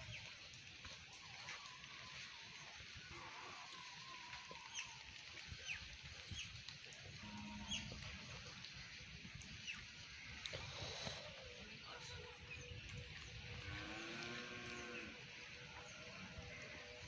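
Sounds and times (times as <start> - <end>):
birds chirping: 0.0 - 17.0
faint outdoor hiss: 0.0 - 17.0.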